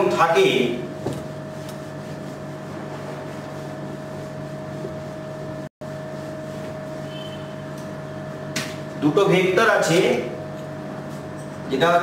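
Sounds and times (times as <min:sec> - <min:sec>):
machine-like room hum: 0:00.0 - 0:12.0.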